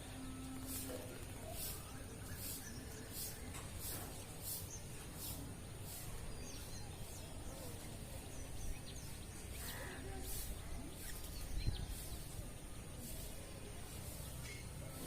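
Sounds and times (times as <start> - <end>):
bird chirps and calls: 0.2 - 15.0.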